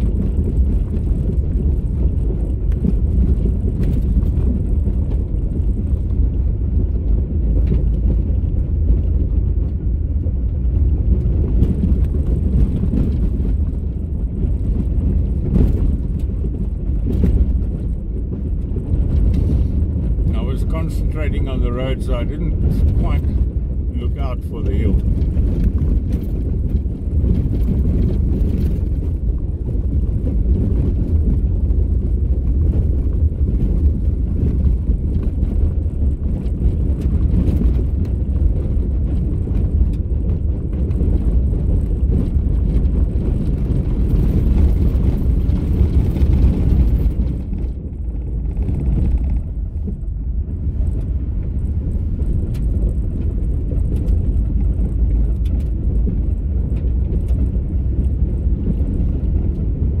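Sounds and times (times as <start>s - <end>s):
car driving on gravel: 0.0s - 60.0s.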